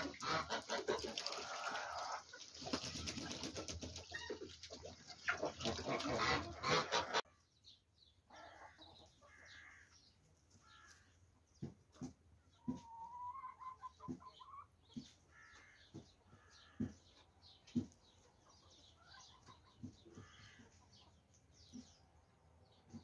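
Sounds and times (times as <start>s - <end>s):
chickens clucking: 0.0s - 7.4s, 8.2s - 23.0s.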